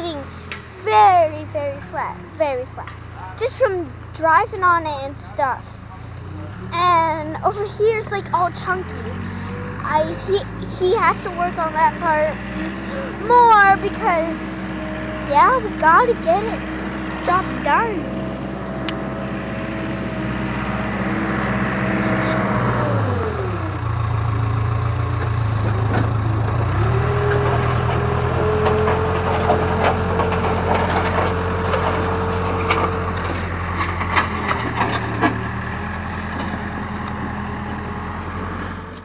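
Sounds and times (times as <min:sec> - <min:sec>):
rock and dirt crunching: 0:00.0 - 0:19.2, 0:25.2 - 0:39.0
backhoe diesel engine running: 0:00.0 - 0:39.0.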